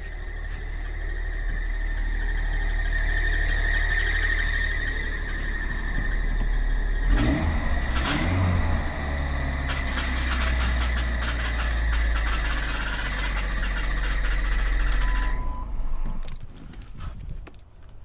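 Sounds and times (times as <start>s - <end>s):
car engine idling: 0.0s - 16.4s.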